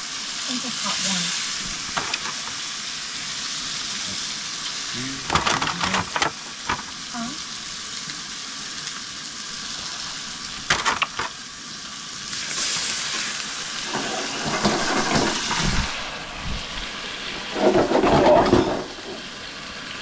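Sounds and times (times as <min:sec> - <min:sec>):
fish sizzling in a frying pan: 0:00.0 - 0:20.0.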